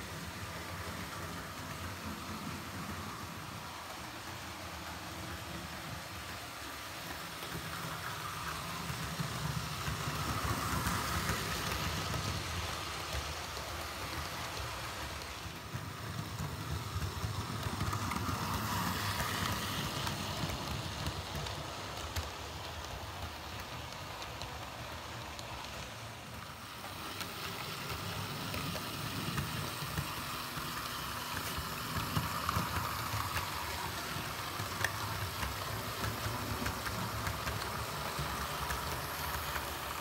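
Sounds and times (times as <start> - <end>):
model train wheels rattling on rails: 0.0 - 40.0.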